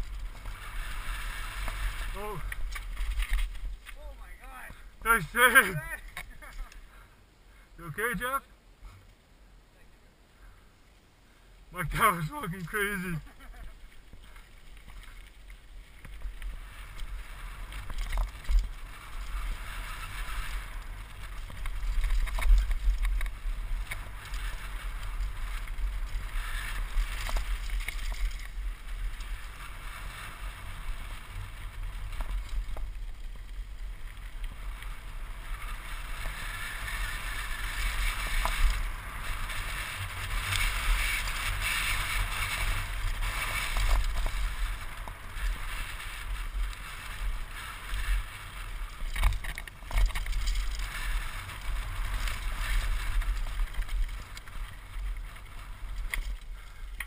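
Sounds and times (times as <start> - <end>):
tyres rolling over gravel: 0.0 - 6.8, 11.8 - 57.0.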